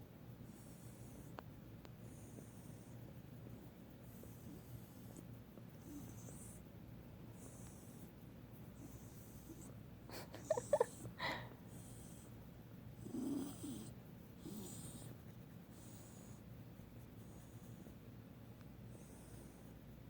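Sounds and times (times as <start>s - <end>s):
dog breathing and snoring: 0.4s - 6.7s, 7.3s - 9.8s, 10.4s - 16.5s, 17.1s - 18.0s, 18.8s - 19.8s.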